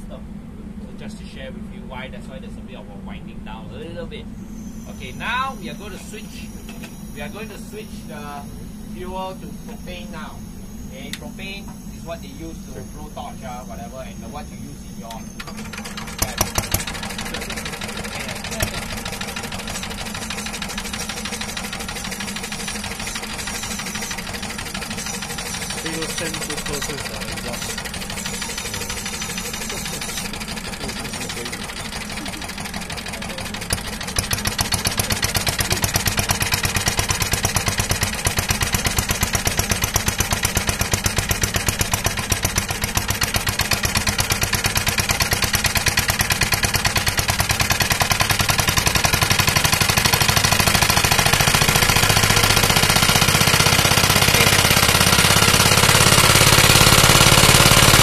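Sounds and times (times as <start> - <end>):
single-cylinder engine running: 0.0 - 58.0.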